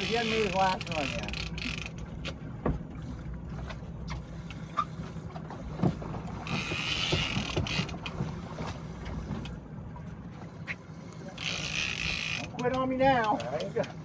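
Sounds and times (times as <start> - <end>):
boat engine rumble: 0.0 - 14.0
water noise: 0.0 - 14.0
wind: 0.0 - 14.0.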